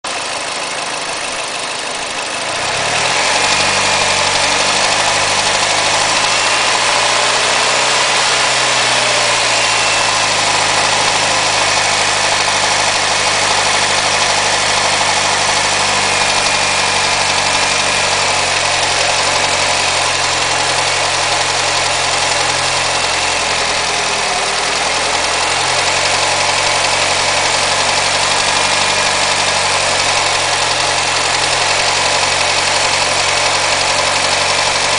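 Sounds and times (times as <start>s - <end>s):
car engine running with knocking: 0.0s - 34.9s.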